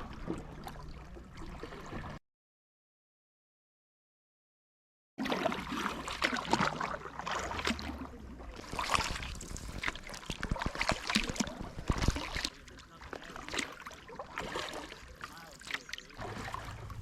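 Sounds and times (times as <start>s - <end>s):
paddle splashing water: 0.0s - 2.2s, 5.2s - 17.0s.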